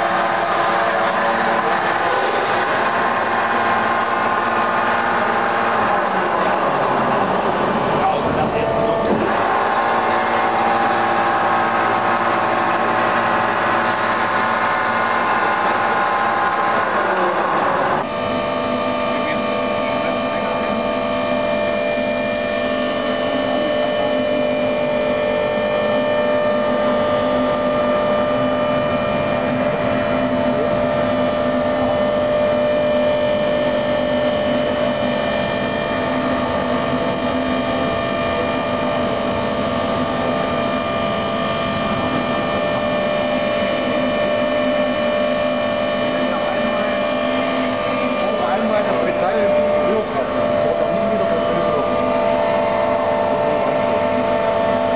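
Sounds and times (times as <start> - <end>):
industrial machinery humming: 0.0 - 54.9.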